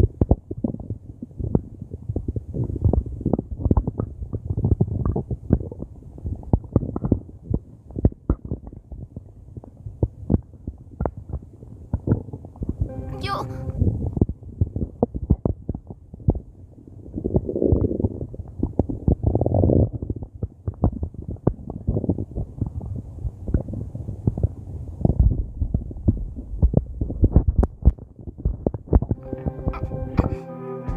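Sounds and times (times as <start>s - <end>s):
stomach growling: 0.0s - 12.9s, 14.1s - 30.4s.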